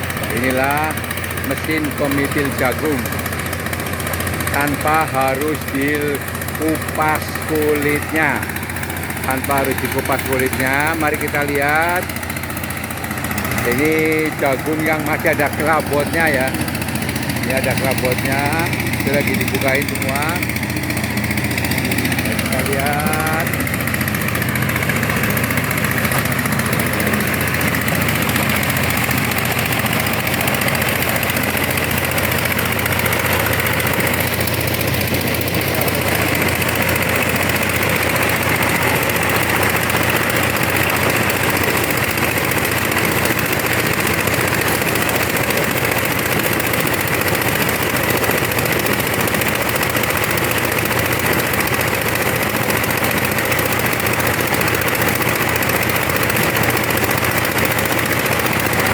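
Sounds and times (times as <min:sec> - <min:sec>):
corn sheller rattling: 0:00.0 - 0:58.9
engine hum: 0:00.0 - 0:58.9.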